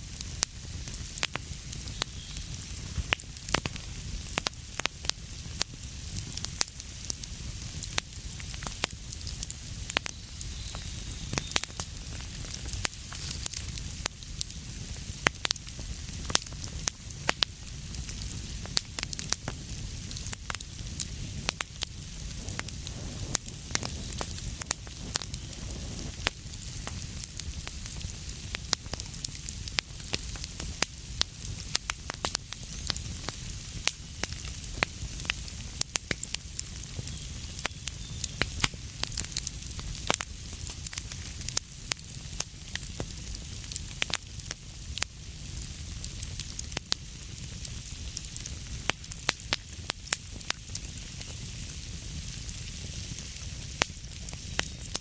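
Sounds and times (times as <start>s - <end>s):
fire crackling and popping: 0.0s - 55.0s
wood fire hissing: 0.0s - 55.0s.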